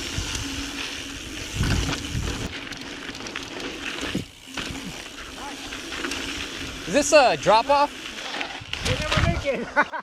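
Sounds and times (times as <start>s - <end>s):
bike rattling and clicking: 0.0s - 10.0s
bike tyres on dirt and gravel: 0.0s - 10.0s.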